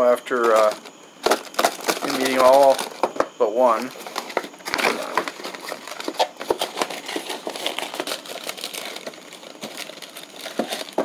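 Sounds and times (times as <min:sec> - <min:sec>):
snack packaging crinkling: 0:00.3 - 0:03.2, 0:03.8 - 0:11.0.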